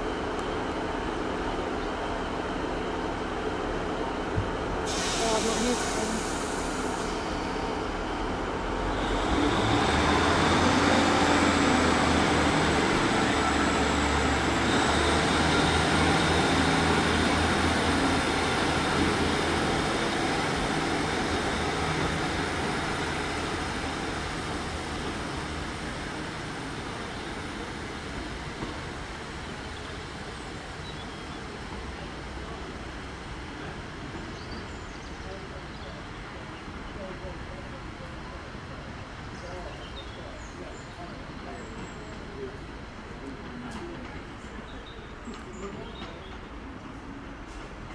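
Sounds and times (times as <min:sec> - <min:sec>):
diesel train engines droning: 0:00.0 - 0:47.9.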